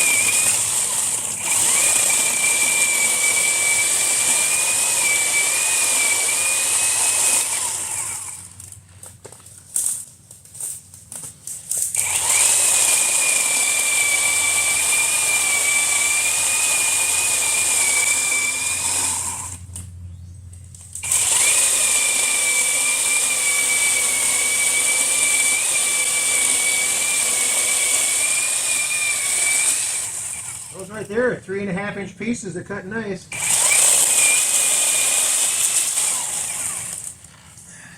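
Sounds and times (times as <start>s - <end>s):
electric chainsaw whining: 0.0s - 8.8s, 11.7s - 19.9s, 20.8s - 31.2s, 33.3s - 37.9s.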